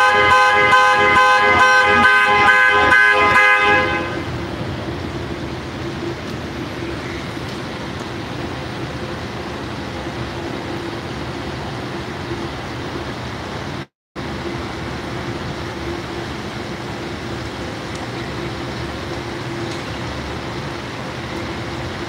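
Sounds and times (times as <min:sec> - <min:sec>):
constant machine hum: 0:00.0 - 0:22.0
street traffic: 0:00.0 - 0:22.0.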